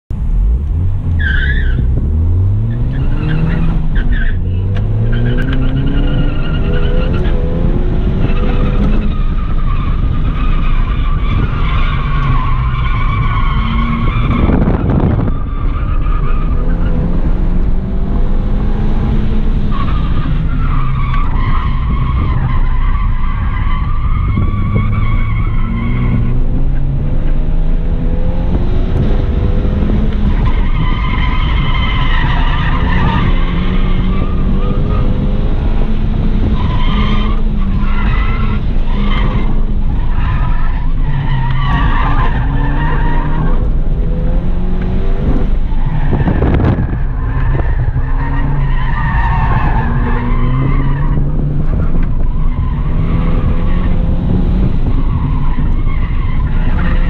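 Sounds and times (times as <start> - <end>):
car engine revving hard: 0.4 - 57.0.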